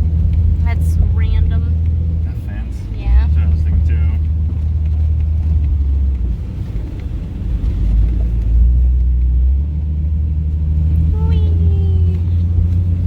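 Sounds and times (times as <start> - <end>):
vehicle engine droning in snow: 0.0 - 13.0.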